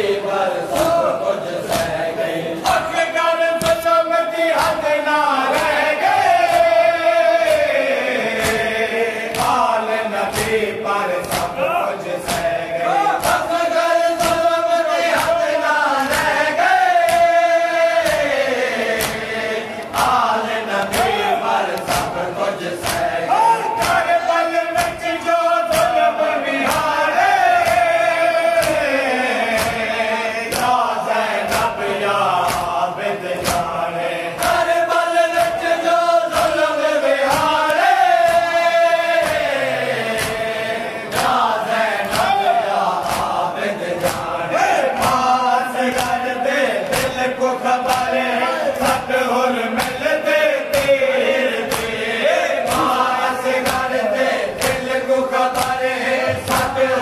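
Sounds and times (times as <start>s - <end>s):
men chanting in unison: 0.0s - 57.0s
hands slapping chests: 0.7s - 49.2s, 49.8s - 57.0s.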